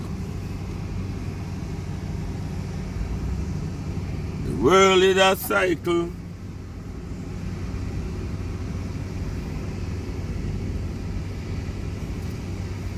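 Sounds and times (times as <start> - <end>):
tow tractor engine rumbling: 0.0 - 12.9.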